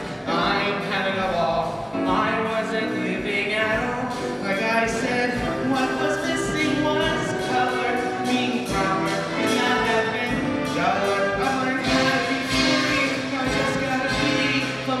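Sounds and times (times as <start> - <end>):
grand piano accompaniment: 0.0 - 15.0
man singing: 0.0 - 15.0.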